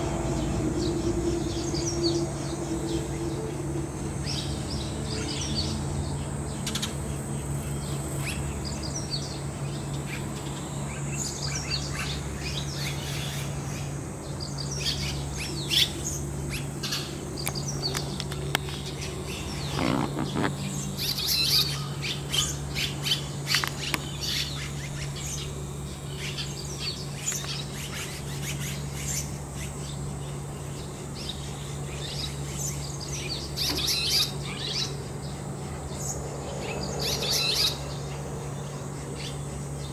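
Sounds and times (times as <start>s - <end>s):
steady low hum: 0.0s - 39.9s
swallows chirping and twittering: 0.0s - 39.9s.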